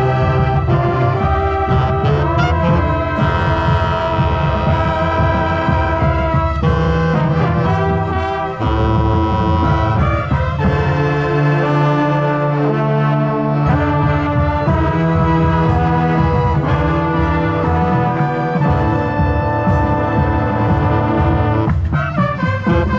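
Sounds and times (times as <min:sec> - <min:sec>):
marching band playing chords: 0:00.0 - 0:22.9.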